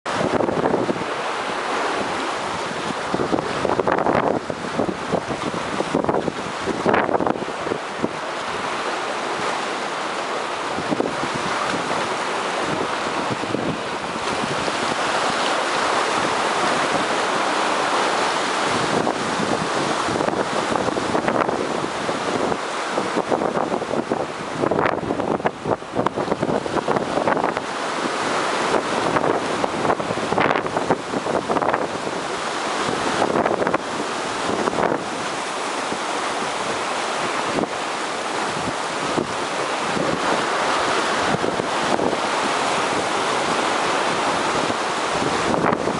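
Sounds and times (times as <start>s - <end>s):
surf breaking: 0.1s - 45.9s
wind on microphone: 0.1s - 45.9s.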